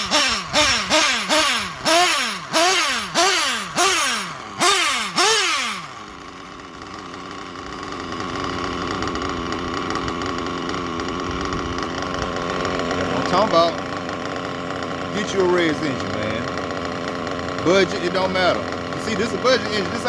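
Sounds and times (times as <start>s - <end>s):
small nitro engine revving: 0.0s - 20.0s.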